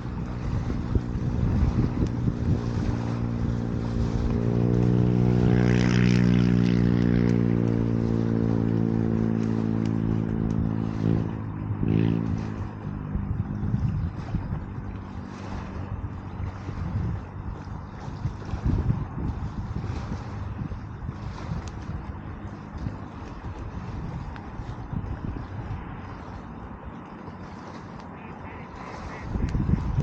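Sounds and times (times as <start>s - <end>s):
motor engine passing by: 0.0s - 30.0s
wind: 0.0s - 30.0s.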